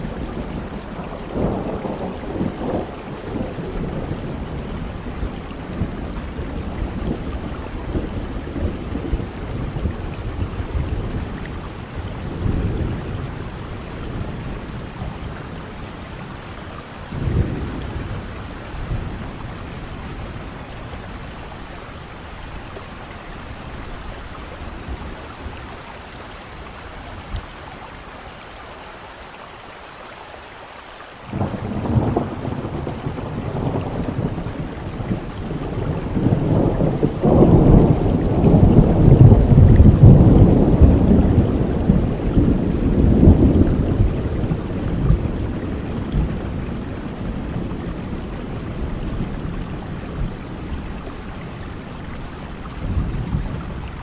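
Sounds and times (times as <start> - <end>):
thunder rumbling: 0.0 - 27.5, 31.3 - 54.0
steady rain: 0.0 - 54.0.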